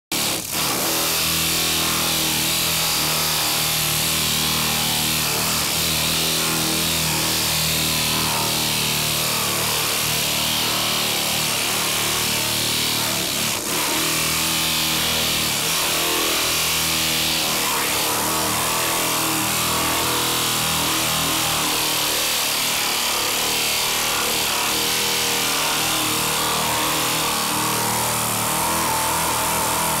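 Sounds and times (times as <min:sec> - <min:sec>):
pneumatic sander running: 0:00.1 - 0:30.0.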